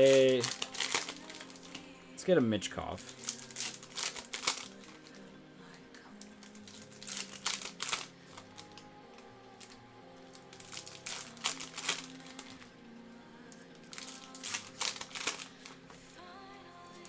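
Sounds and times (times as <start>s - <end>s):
card wrappers crinkling: 0.0s - 5.2s, 6.1s - 12.8s, 13.5s - 16.0s
quiet background music: 0.0s - 17.0s.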